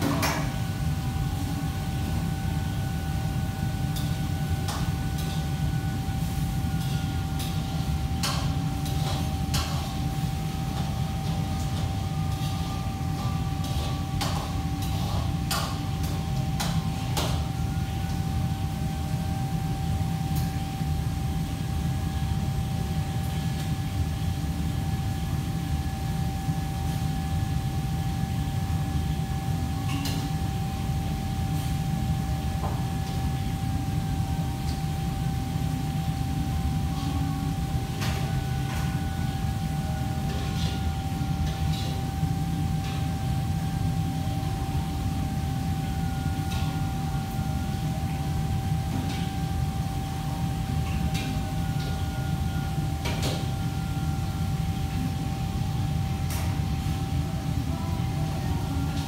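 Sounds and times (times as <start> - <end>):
kitchen equipment rumble and hum: 0.0 - 59.0
mid-pitched whine: 0.0 - 59.0.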